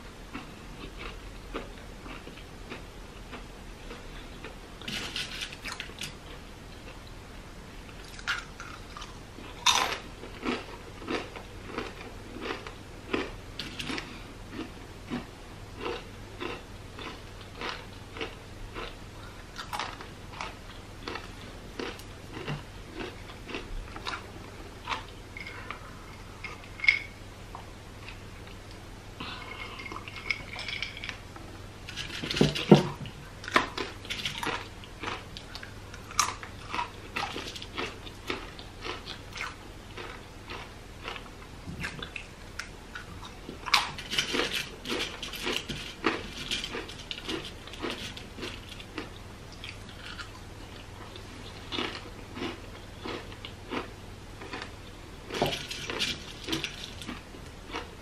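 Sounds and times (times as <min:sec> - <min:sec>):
crunching of chips being chewed: 0:00.3 - 0:07.0, 0:07.9 - 0:27.2, 0:29.2 - 0:31.2, 0:31.9 - 0:58.0.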